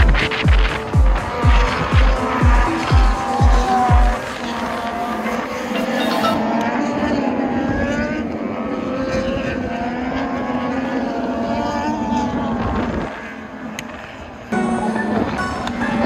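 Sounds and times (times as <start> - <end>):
racing motorcycle engines revving: 0.0 - 16.0.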